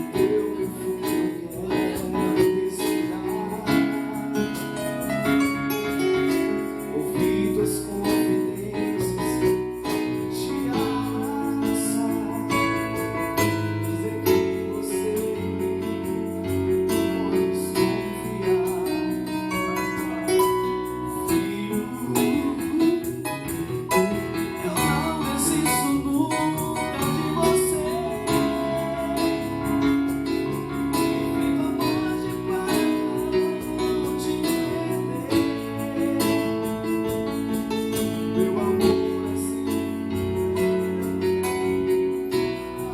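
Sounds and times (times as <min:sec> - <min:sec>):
bass: 0:00.0 - 0:42.9
cajon beat: 0:00.0 - 0:42.9
keyboard chords: 0:00.0 - 0:42.9
person singing: 0:00.0 - 0:42.9
tambourine: 0:00.0 - 0:42.9.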